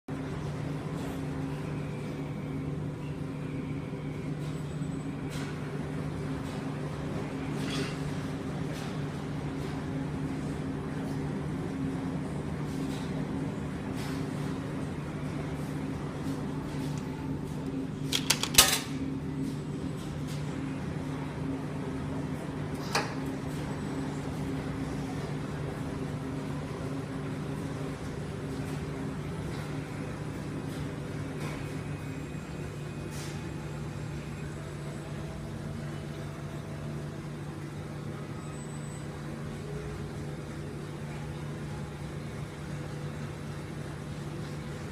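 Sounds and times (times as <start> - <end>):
laundry machines humming: 0.1 - 44.9.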